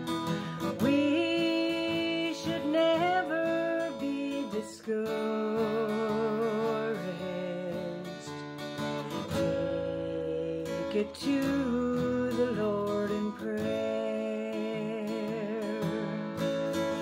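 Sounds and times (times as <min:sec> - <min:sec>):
acoustic guitar strumming: 0:00.0 - 0:17.0
woman singing: 0:00.0 - 0:17.0.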